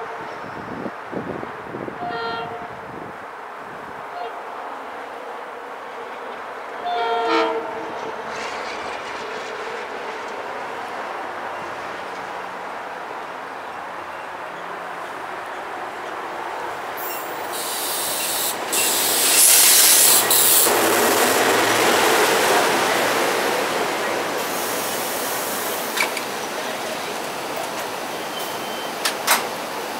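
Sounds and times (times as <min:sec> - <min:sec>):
electric railcars rolling past: 0:00.0 - 0:29.9.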